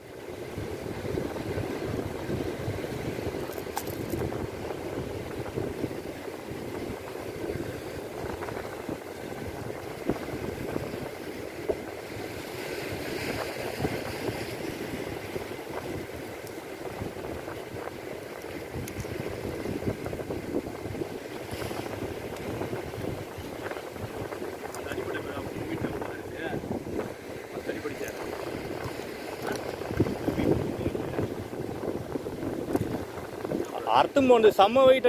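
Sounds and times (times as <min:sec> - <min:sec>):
sea surf washing on shore: 0:00.0 - 0:35.0.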